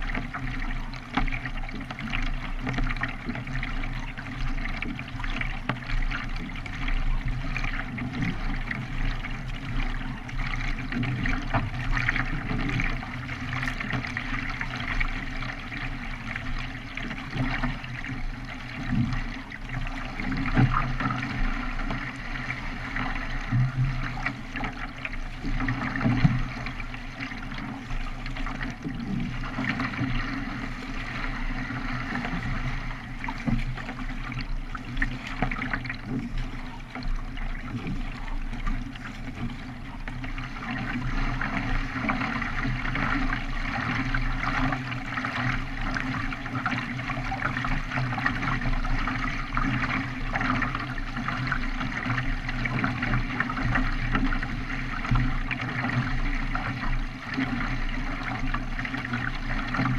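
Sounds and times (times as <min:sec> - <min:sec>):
water splashing around kayak: 0:00.0 - 0:59.9.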